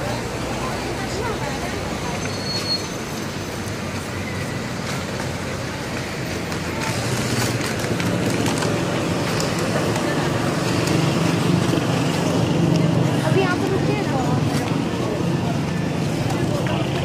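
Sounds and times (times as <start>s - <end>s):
faint voices: 0.0s - 17.0s
street traffic: 0.0s - 17.0s
vehicle engine humming: 0.0s - 17.0s.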